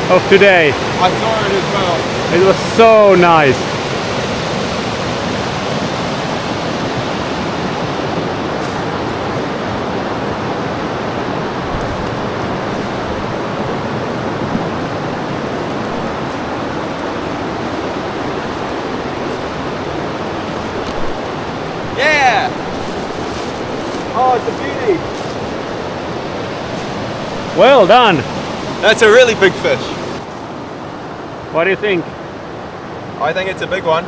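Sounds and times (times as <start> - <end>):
fast-flowing river rushing: 0.0 - 34.0.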